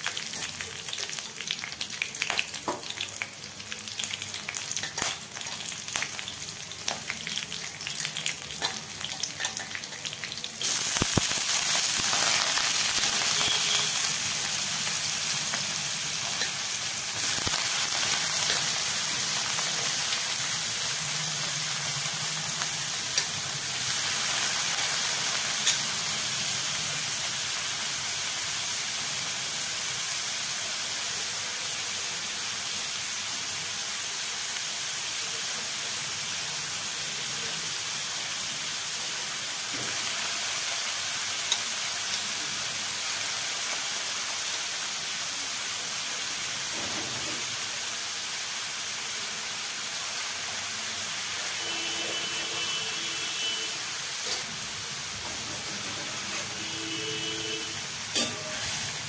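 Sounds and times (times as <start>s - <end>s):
frying in hot oil: 0.0s - 59.0s.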